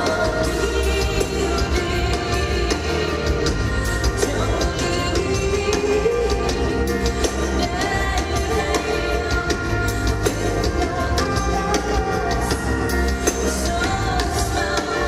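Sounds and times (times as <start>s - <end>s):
drums and bass beat: 0.0s - 15.0s
rock band playing: 0.0s - 15.0s
woman singing: 0.0s - 15.0s.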